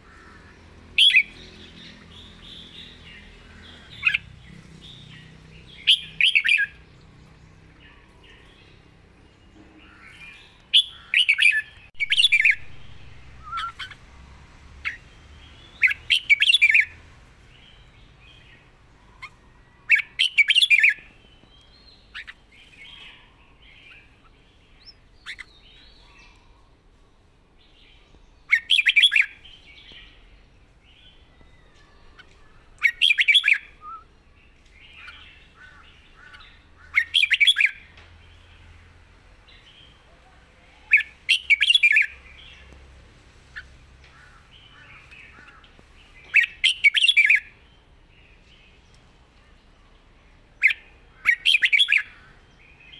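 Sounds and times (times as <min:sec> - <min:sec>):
bird singing warbled phrases: 0:00.0 - 0:52.9
soft bird chirps: 0:00.0 - 0:52.9.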